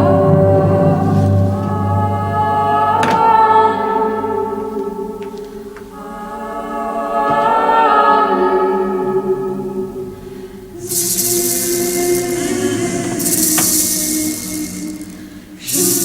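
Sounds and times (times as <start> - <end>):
orchestral music with choir voices: 0.0 - 16.0.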